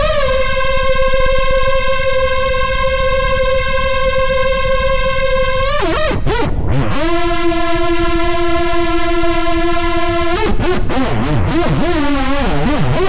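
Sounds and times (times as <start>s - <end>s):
buzzy synthesizer note: 0.0s - 13.0s.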